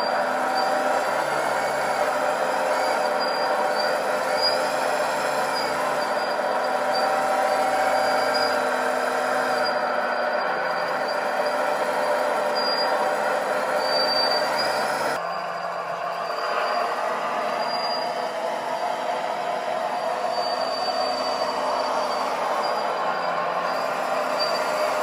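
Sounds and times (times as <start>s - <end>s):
short high squeaks: 0.0s - 18.6s, 20.0s - 25.0s
model excavator mechanical drone: 0.0s - 25.0s.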